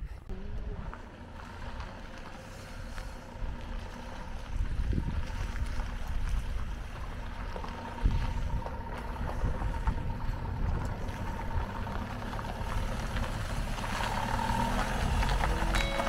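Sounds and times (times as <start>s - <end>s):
wind buffeting microphone: 2.8s - 16.0s.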